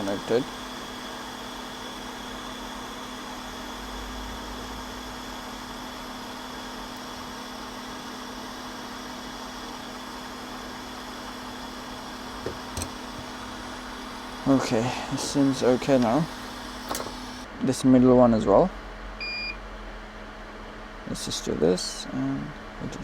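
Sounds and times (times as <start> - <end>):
blower fan running: 0.0 - 19.5.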